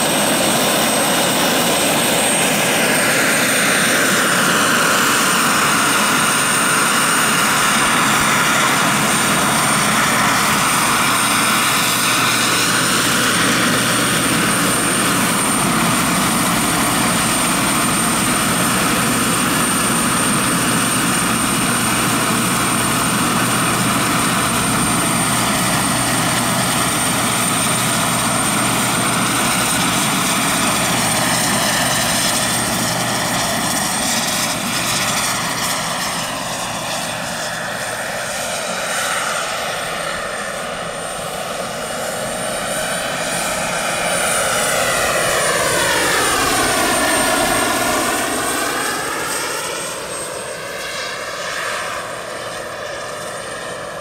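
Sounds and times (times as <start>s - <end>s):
gas turbine whine: 0.0s - 54.0s
helicopter rotor noise: 0.0s - 54.0s.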